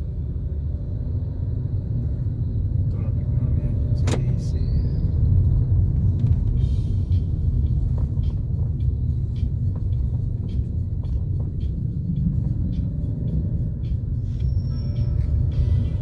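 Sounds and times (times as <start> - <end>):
car cabin rumble: 2.3 - 16.0.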